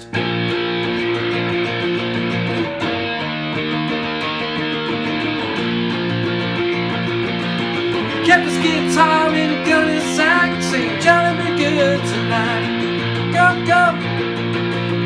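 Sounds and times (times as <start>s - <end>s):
electric guitar strumming power chords: 0.0s - 15.0s.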